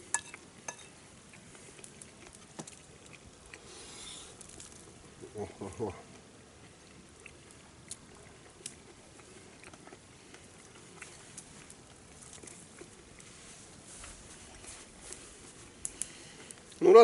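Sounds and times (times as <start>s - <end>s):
campfire crackling: 0.0s - 17.0s
low steady hiss: 0.0s - 17.0s.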